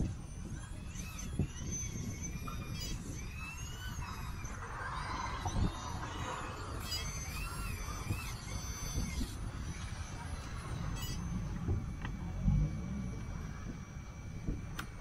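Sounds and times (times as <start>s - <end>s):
hydraulic pump whining: 0.0s - 15.0s
steady low rumble: 0.0s - 15.0s.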